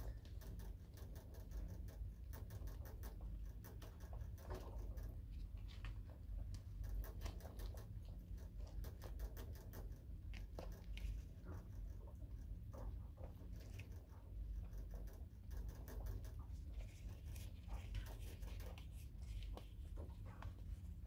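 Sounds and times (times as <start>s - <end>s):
low steady hum: 0.0s - 21.0s
scratching and rustling: 0.0s - 21.0s.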